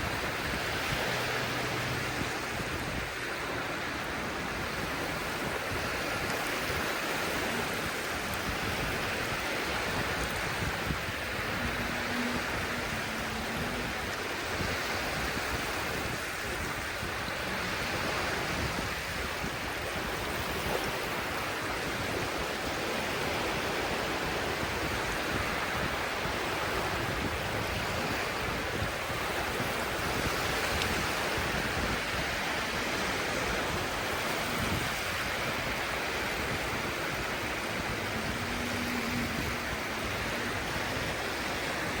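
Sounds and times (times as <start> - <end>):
surf washing onto shore: 0.0 - 42.0.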